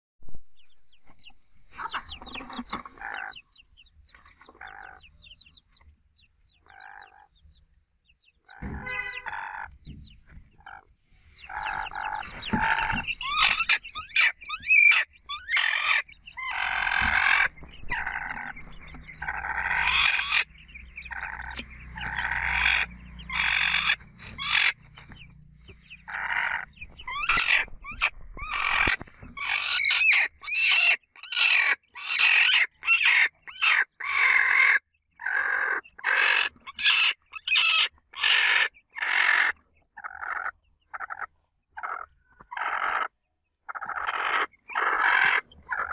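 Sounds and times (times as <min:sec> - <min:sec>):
hens clucking and calling: 0:01.0 - 0:05.2, 0:06.6 - 0:07.3, 0:08.5 - 0:45.9.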